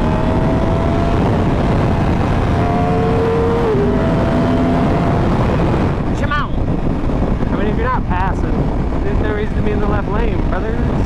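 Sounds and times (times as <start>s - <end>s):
motorcycle engine hum: 0.0s - 11.0s
wind rushing over microphone: 0.0s - 11.0s.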